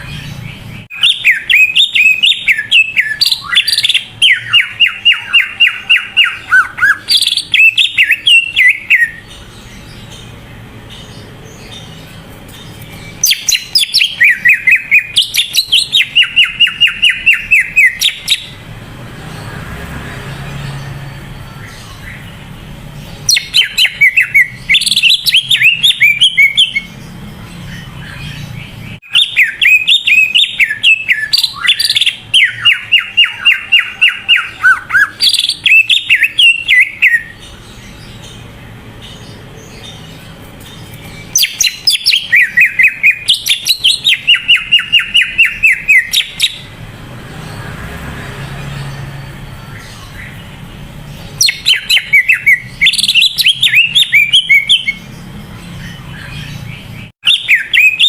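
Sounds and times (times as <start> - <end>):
bird chirping and whistling: 0.0 - 19.6, 20.2 - 58.0.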